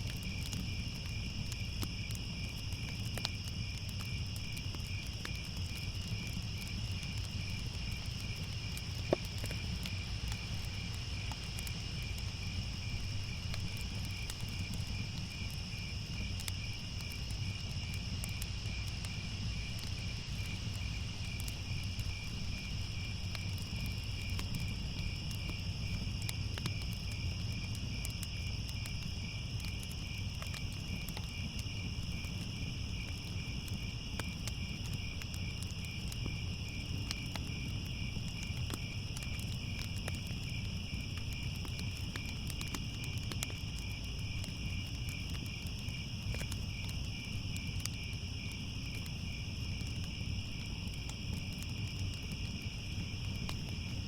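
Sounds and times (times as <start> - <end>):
crickets trilling: 0.0 - 54.0
faint crackles: 0.0 - 54.0.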